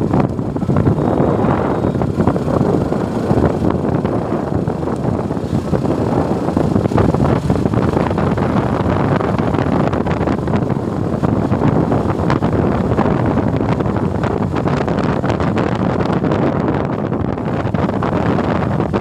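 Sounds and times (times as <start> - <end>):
motorcycle running: 0.0 - 19.0
road noise: 0.0 - 19.0
wind buffeting microphone: 0.0 - 19.0.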